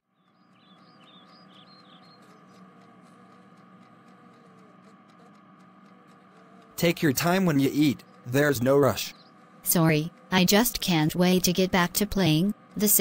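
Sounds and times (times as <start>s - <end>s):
low steady hum: 0.0s - 13.0s
faint ticks: 0.2s - 13.0s.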